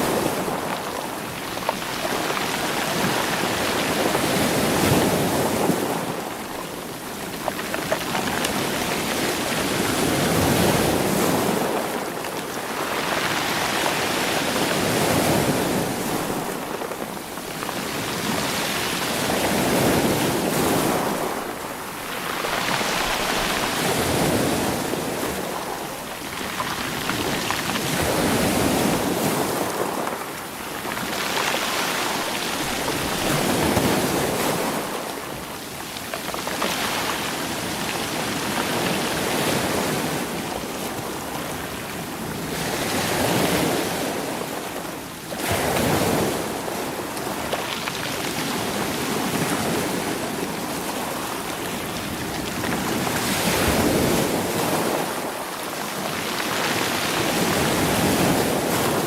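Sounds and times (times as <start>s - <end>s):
waves washing against rocks: 0.0s - 59.0s.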